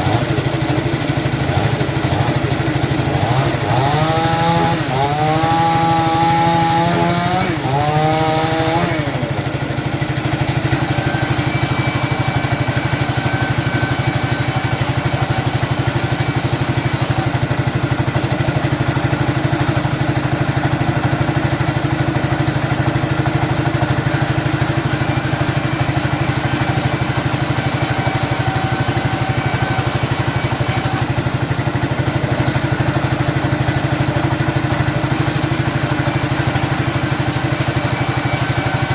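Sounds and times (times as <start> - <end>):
saw cutting wood: 0.0 - 20.4, 21.3 - 38.9
engine running: 0.0 - 38.9.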